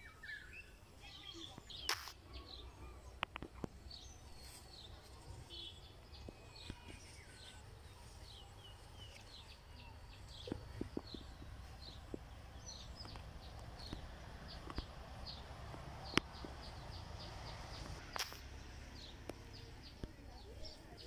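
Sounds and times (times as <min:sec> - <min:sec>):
bird chirps: 0:00.0 - 0:18.2.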